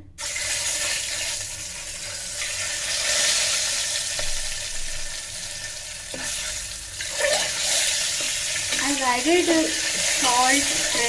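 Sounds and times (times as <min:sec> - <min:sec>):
eggs sizzling in hot oil: 0:00.2 - 0:11.0.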